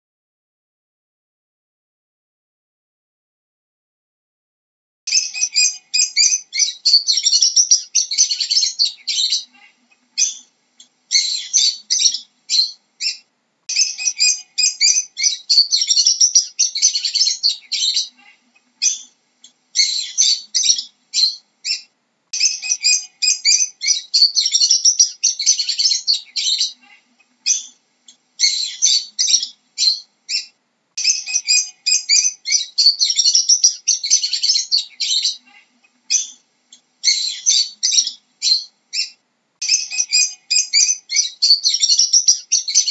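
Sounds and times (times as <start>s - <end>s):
lovebirds chattering: 5.1s - 42.9s.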